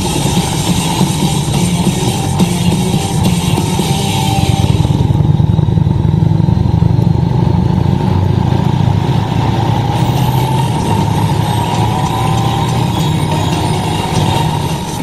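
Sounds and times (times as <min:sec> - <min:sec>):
motorcycle engine drone: 0:00.0 - 0:15.0
wind and road noise: 0:00.0 - 0:15.0.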